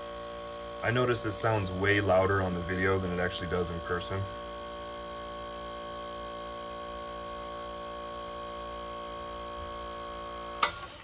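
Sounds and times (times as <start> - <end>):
airbrush compressor humming: 0.0 - 11.0.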